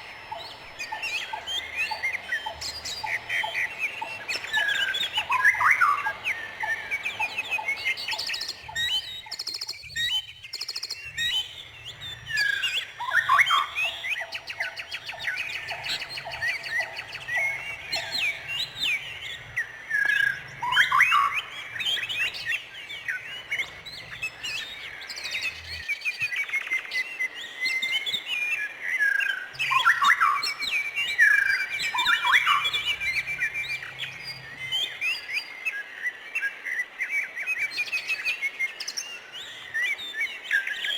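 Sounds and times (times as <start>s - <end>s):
lower repeated bird trill: 0.0s - 40.9s
songbirds chirping: 0.0s - 40.9s.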